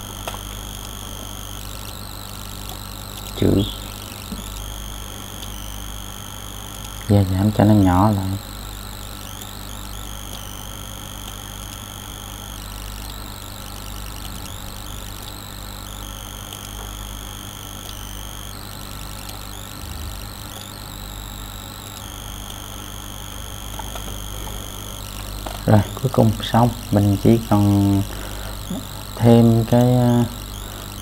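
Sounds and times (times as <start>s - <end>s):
high-pitched whining tones: 0.0s - 31.0s
low electrical hum: 0.0s - 31.0s.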